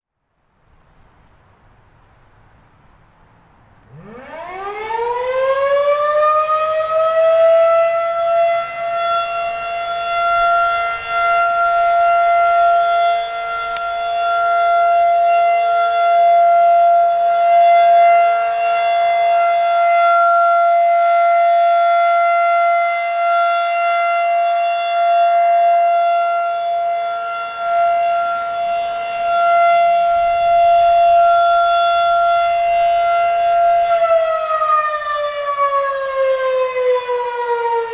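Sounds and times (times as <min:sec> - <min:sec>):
rotating warning siren wailing: 0:03.8 - 0:37.9.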